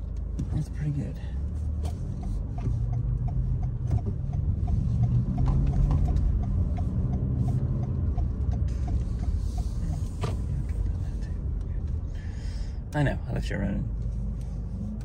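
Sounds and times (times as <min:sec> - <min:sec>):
road and engine rumble: 0:00.0 - 0:15.0
turn signal ticking: 0:00.0 - 0:15.0.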